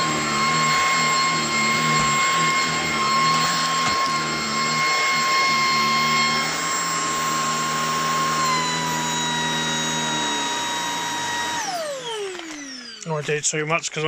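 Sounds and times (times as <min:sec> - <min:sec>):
cordless vacuum cleaner running: 0:00.0 - 0:13.3.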